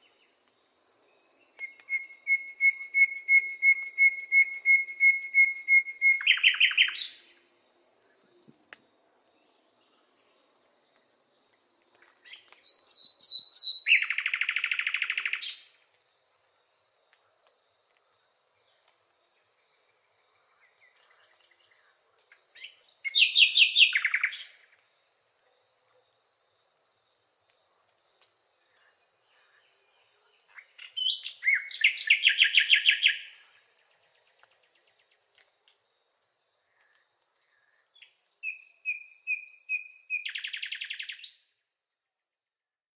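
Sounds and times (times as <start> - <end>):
songbird singing: 0.0 - 17.2, 18.0 - 26.2, 27.6 - 35.6, 36.6 - 41.5.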